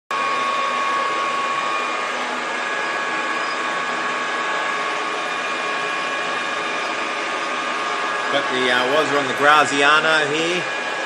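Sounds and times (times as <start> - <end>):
small motor whining: 0.1 - 11.0.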